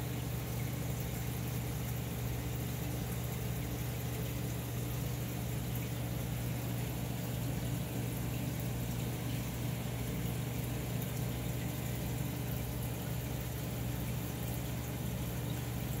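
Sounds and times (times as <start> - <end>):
aquarium filter pump hum: 0.0 - 16.0.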